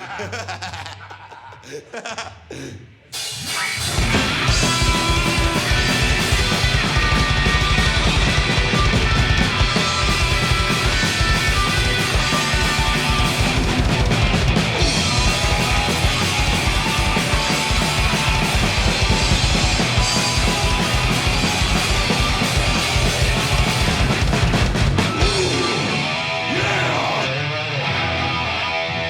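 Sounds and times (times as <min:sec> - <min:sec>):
pounding drum kit: 0:03.2 - 0:27.3
distorted electric guitar: 0:03.2 - 0:29.0
punk rock band playing: 0:03.2 - 0:29.0.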